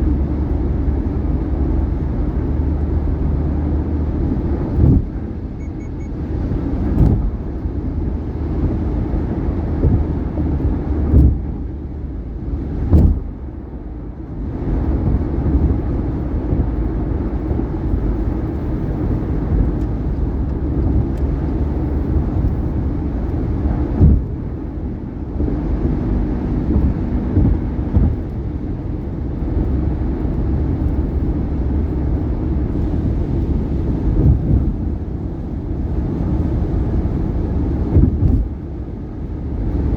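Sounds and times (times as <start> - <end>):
tyre and road noise: 0.0 - 39.9.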